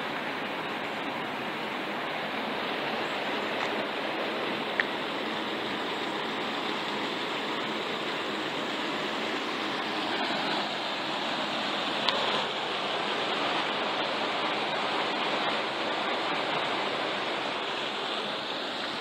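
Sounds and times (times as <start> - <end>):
flowing water: 0.0 - 19.0.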